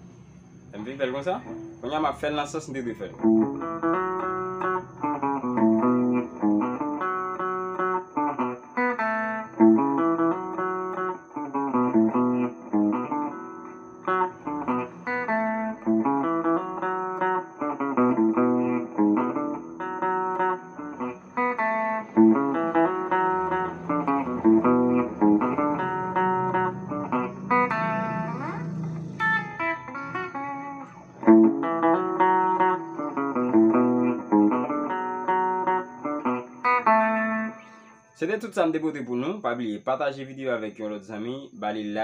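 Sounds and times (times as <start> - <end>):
electric guitar groove: 0.8 - 38.2.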